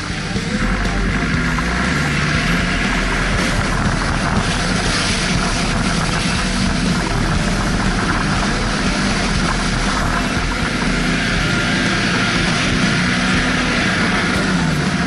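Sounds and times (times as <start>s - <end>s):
vehicle engine running: 0.0s - 15.0s
water splashing against vehicle: 0.0s - 15.0s.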